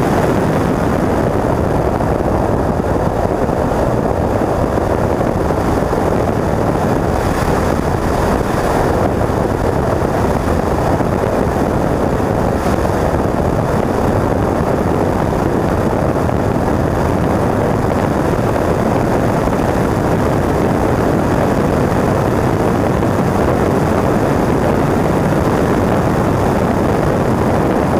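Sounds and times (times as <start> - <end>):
car engine at high revs: 0.0 - 27.9
heavy wind rush: 0.0 - 27.9.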